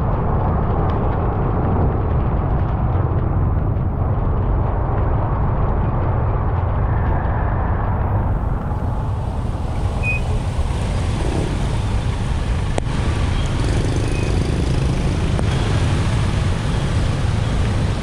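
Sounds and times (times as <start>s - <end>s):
motor traffic rumble: 0.0s - 18.0s.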